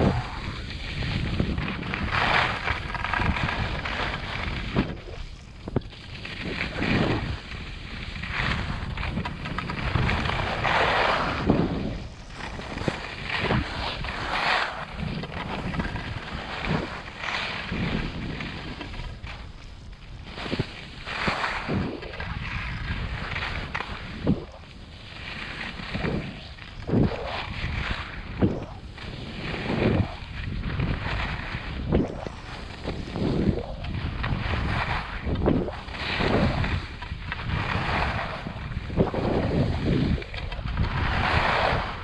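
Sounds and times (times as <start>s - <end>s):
ski edges scraping snow: 0.0s - 42.0s
wind rushing over microphone: 0.0s - 42.0s.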